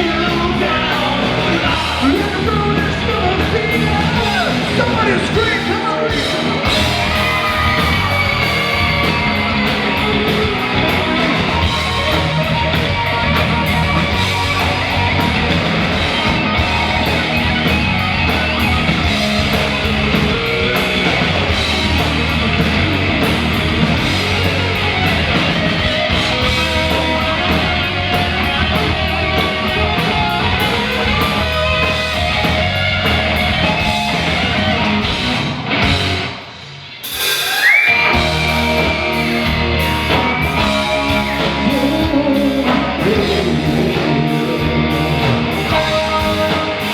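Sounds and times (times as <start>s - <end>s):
hard rock band instrumental: 0.0s - 46.9s.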